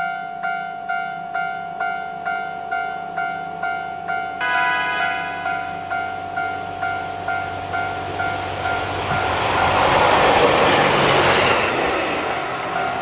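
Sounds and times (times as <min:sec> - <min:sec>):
level-crossing warning bell dinging: 0:00.0 - 0:11.6, 0:12.4 - 0:13.0
railcar passing: 0:00.0 - 0:13.0.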